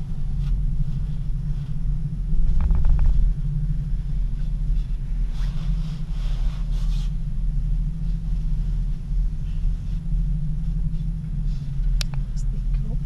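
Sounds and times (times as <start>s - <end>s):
cable car gondola rumbling: 0.0s - 13.0s.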